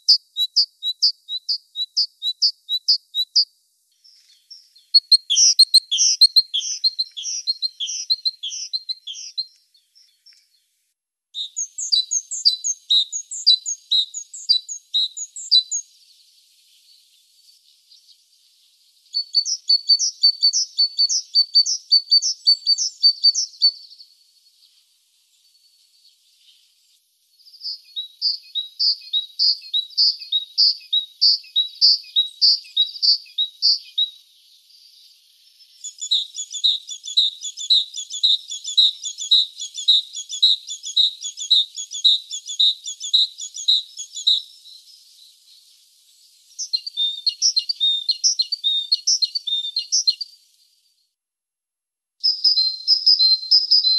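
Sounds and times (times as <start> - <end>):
great tit singing: 0.0 - 10.6, 11.4 - 24.6, 27.4 - 50.4, 52.2 - 53.9.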